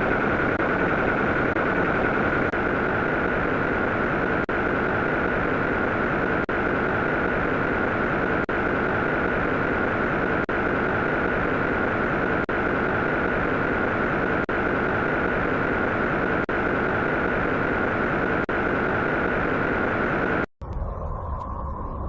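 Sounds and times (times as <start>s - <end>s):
low hum: 0.0s - 22.0s
rushing noise with high whine: 0.0s - 22.0s.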